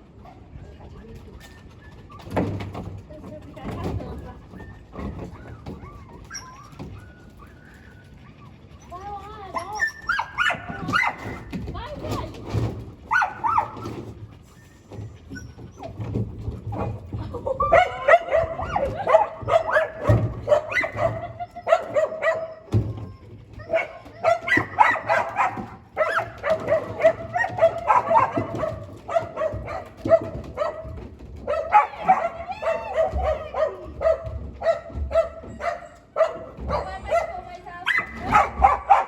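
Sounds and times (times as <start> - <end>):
dog barking and whining: 4.5 - 12.1, 13.0 - 39.0.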